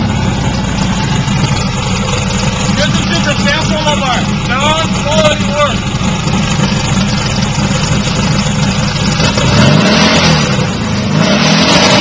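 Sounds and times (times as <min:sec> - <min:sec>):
turbocharged engine revving: 0:00.0 - 0:12.0.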